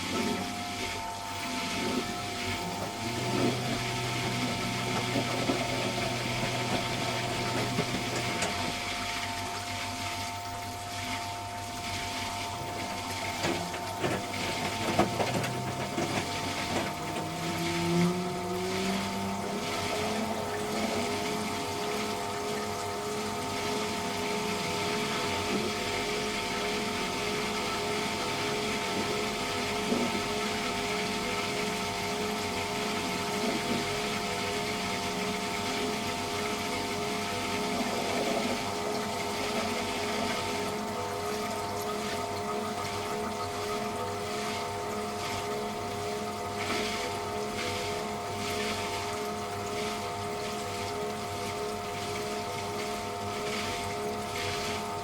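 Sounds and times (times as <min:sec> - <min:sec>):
motor whine rising in pitch: 0:00.0 - 0:55.0
washing machine humming: 0:00.0 - 0:55.0.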